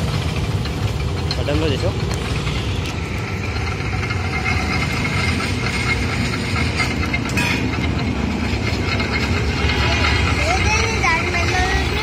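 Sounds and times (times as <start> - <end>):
juice crusher mechanical rumble: 0.0 - 12.0.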